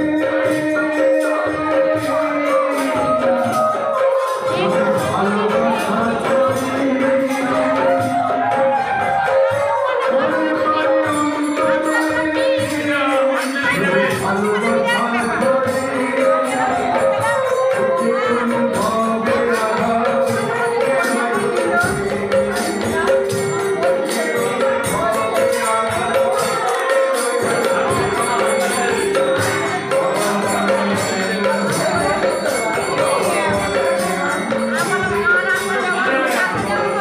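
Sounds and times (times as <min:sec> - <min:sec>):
devotional music: 0:00.0 - 0:37.0
jingling tambourine-like percussion: 0:00.0 - 0:37.0.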